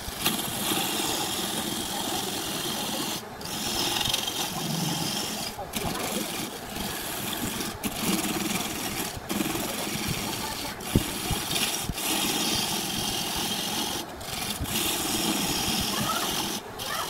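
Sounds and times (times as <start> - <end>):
lathe gouge scraping wood: 0.0 - 17.0.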